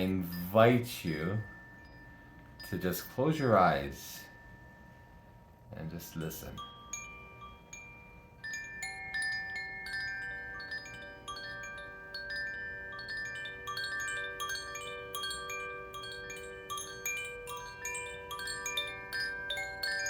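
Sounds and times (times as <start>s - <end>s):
chime ringing notes: 0.0s - 20.0s.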